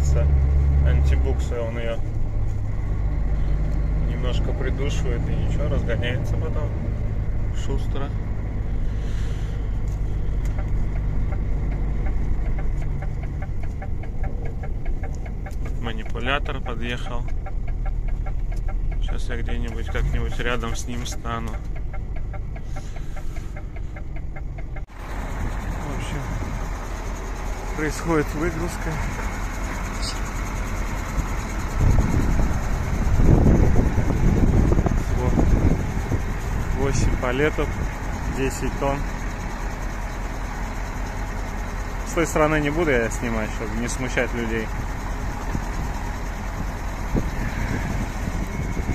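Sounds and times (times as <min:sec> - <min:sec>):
truck diesel engine rumble: 0:00.0 - 0:48.9
rapid regular ticking: 0:07.4 - 0:48.9.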